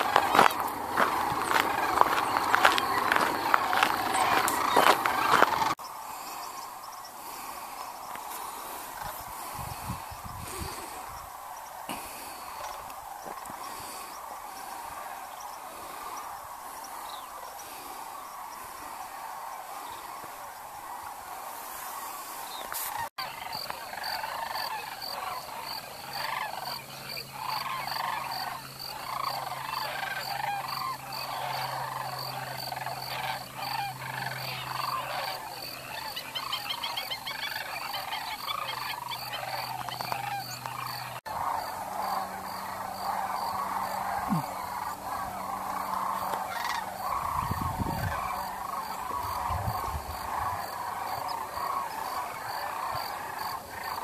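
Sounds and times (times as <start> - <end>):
cranes calling: 0.0 - 54.0.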